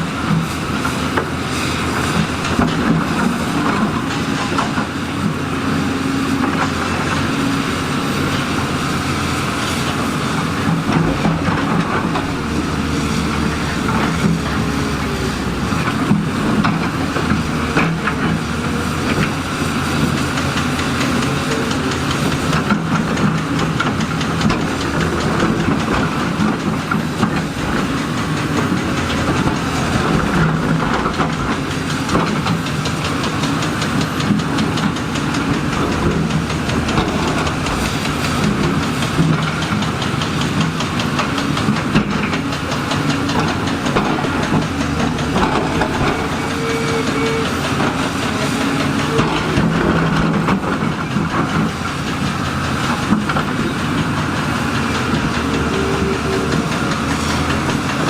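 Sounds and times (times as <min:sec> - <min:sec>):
heavy diesel machinery running: 0:00.0 - 0:58.0
metallic clanks and rattles: 0:09.7 - 0:58.0.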